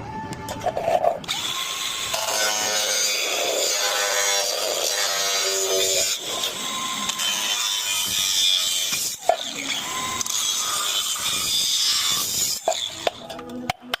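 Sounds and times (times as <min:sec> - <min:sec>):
power tool grinding steel: 0:00.6 - 0:13.6.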